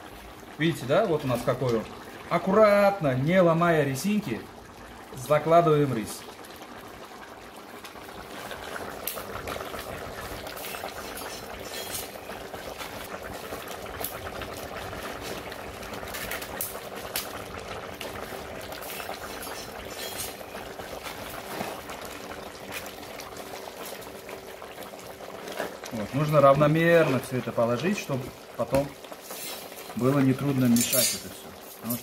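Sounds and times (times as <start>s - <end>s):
broth boiling and bubbling: 0.0s - 32.0s
wood fire crackling and popping: 0.0s - 32.0s.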